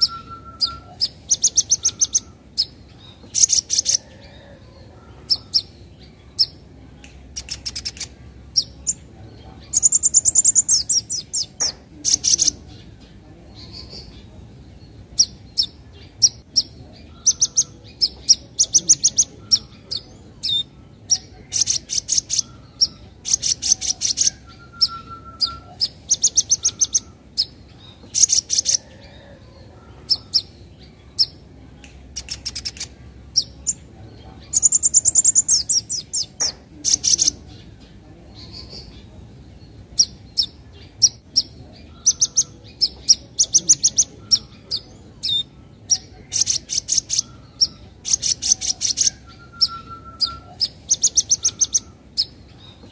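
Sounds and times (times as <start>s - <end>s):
bird chattering trills: 0.0s - 6.6s, 7.3s - 31.4s, 32.1s - 52.9s
bird high chirps: 0.0s - 52.9s.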